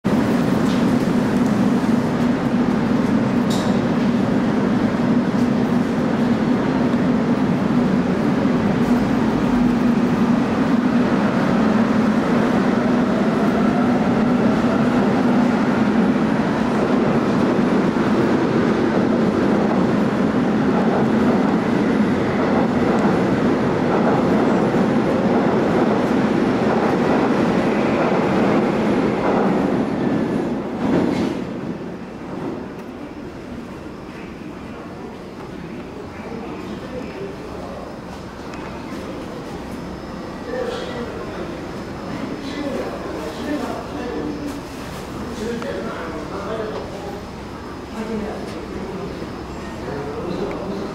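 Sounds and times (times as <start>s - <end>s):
train wheels rumbling on rails: 0.1s - 50.9s.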